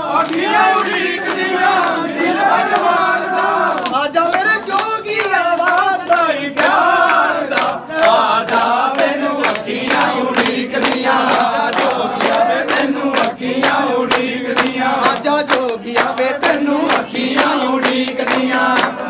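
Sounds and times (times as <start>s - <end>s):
hand claps: 0.0s - 19.0s
men singing together: 0.0s - 19.0s.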